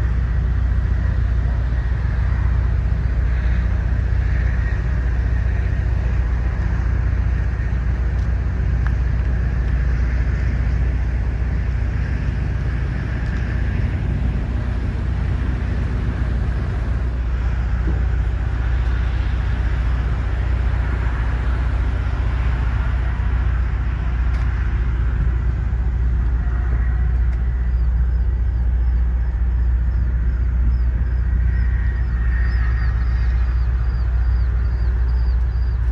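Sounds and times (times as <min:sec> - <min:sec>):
low engine rumble idling: 0:00.0 - 0:35.9.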